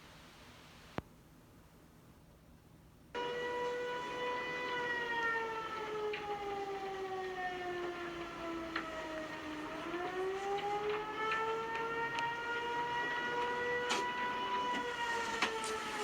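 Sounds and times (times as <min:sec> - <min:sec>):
tornado siren wailing: 0:03.2 - 0:16.0.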